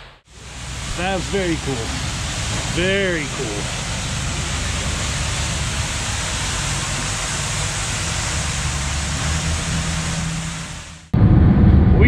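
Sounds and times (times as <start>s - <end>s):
low rumble: 0.0s - 12.0s
waterfall rushing: 0.2s - 11.1s.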